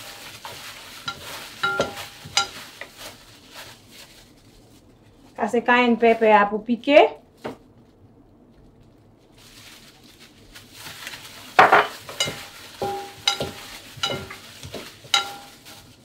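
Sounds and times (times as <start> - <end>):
squishing marinade: 0.0 - 5.5, 7.3 - 16.0
plastic glove rustling: 0.0 - 16.0.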